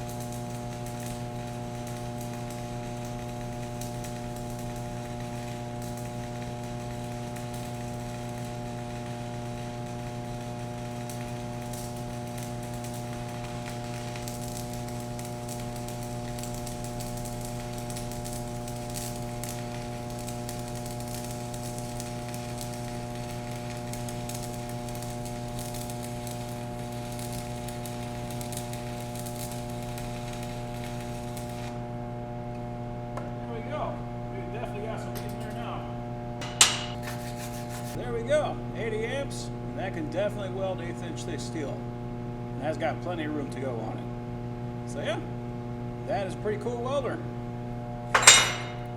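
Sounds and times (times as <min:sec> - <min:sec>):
welding arc crackling and sizzling: 0:00.0 - 0:33.8, 0:34.7 - 0:47.2, 0:47.8 - 0:48.9
steady electrical hum: 0:00.0 - 0:48.9.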